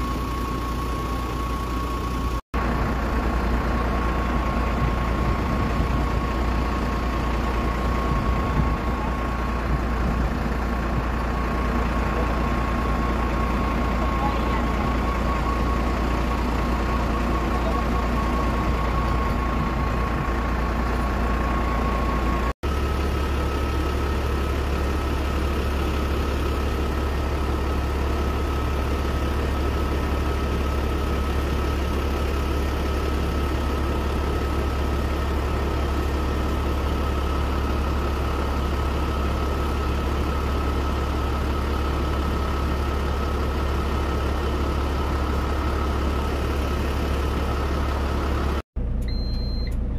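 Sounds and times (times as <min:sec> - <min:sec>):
engine drone with high whine: 0:00.0 - 0:49.9.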